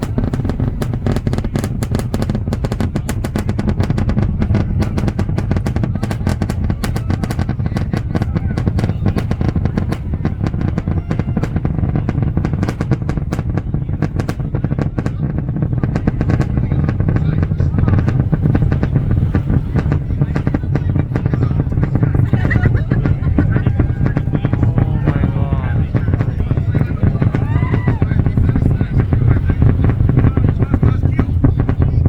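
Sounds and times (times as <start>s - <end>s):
rocket engines roaring and crackling: 0.0s - 32.0s.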